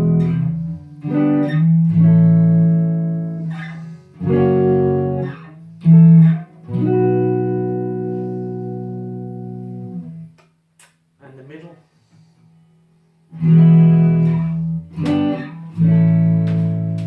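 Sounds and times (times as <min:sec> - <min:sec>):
electric guitar strumming chords: 0:00.0 - 0:10.3, 0:13.3 - 0:17.0.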